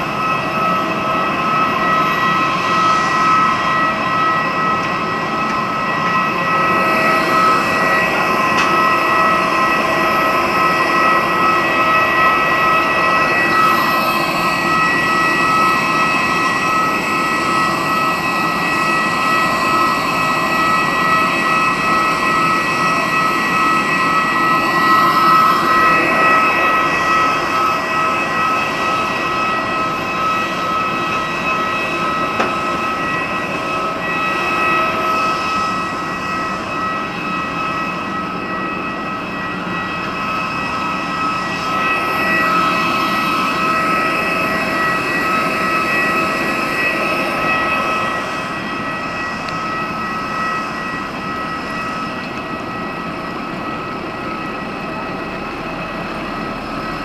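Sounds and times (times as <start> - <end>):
jet turbine whine: 0.0 - 57.0.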